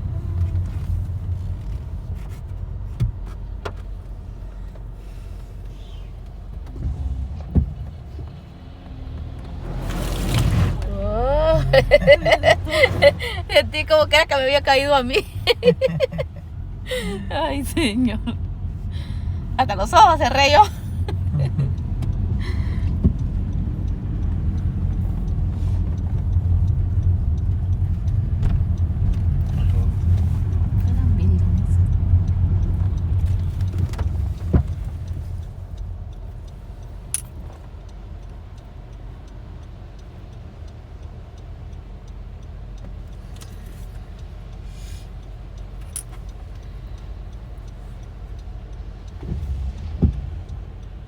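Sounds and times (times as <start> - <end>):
car road rumble: 0.0 - 51.0
light ticks of rain: 0.0 - 51.0.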